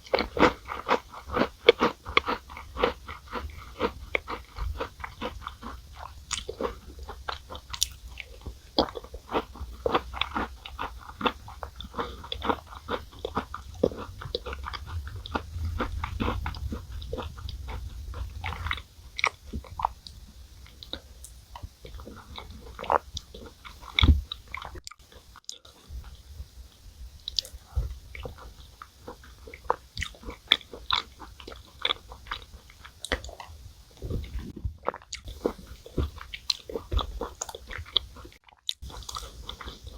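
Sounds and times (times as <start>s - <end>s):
cookie crunching and chewing: 0.0s - 39.9s.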